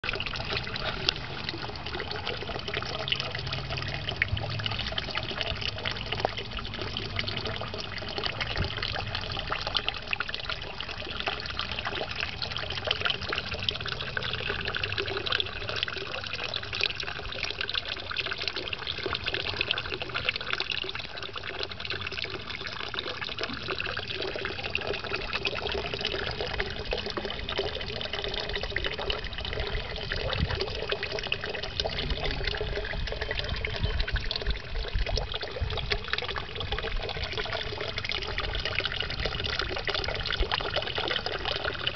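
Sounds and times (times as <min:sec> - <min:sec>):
water trickling into a pond: 0:00.0 - 0:41.9.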